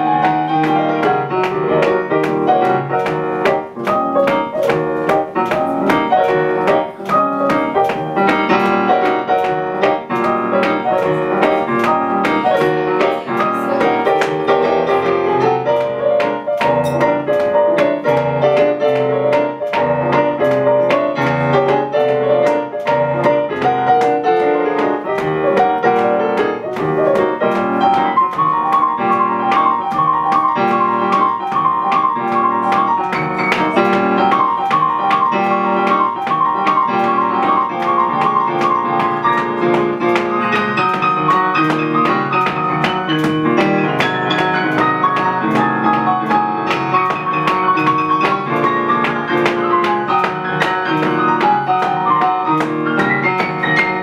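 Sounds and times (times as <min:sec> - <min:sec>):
jazz piano piece: 0:00.0 - 0:54.0.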